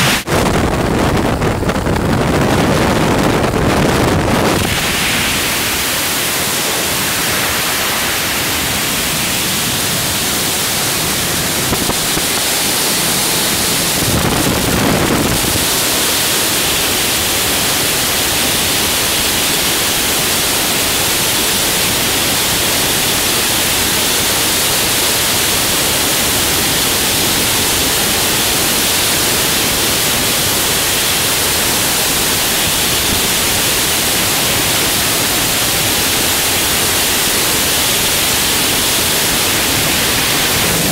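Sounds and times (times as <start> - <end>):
freefall wind rushing: 0.0 - 40.9.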